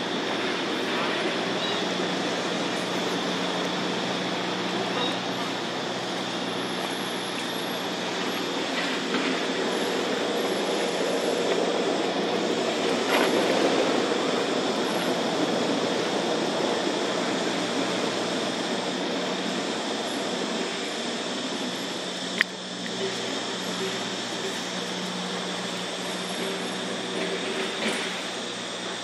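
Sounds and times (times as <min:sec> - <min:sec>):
low hum drone: 0:00.0 - 0:29.0.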